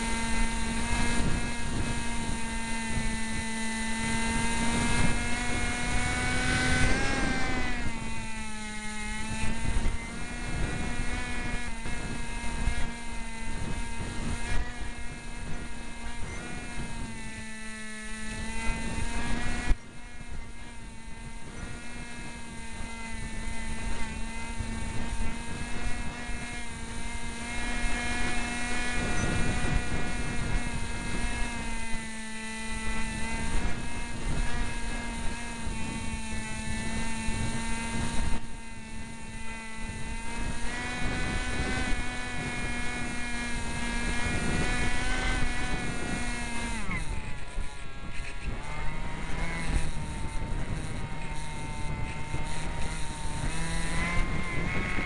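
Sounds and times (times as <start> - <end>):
electric motor and propeller whining: 0.0 - 55.0.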